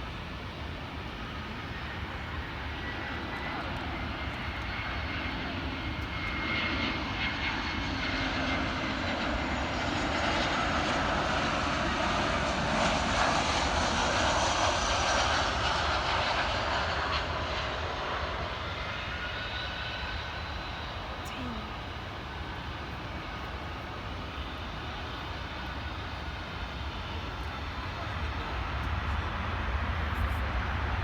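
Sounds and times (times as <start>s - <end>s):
jet airliner passing: 0.1s - 31.0s.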